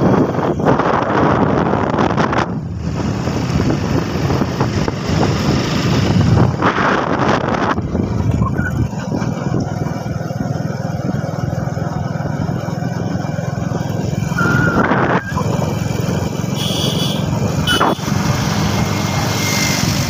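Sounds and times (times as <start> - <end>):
vehicle engine cruising: 0.0 - 20.0
wind and road noise: 0.0 - 20.0.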